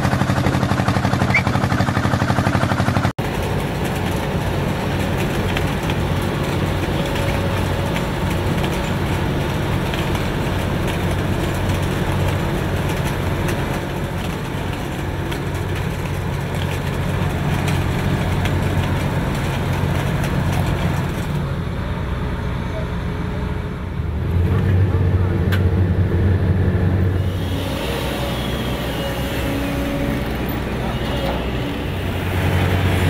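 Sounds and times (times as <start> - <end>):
diesel machinery droning: 0.0 - 33.0.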